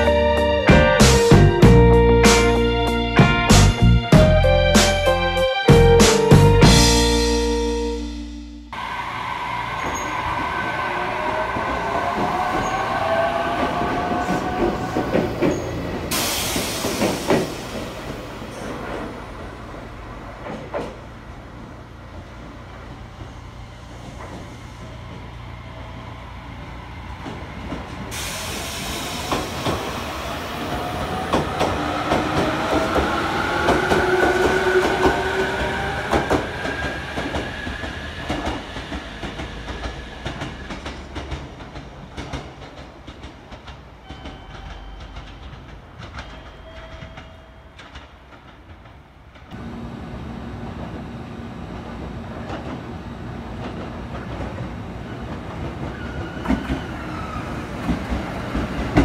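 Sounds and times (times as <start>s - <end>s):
approaching train hum: 0.0s - 59.0s.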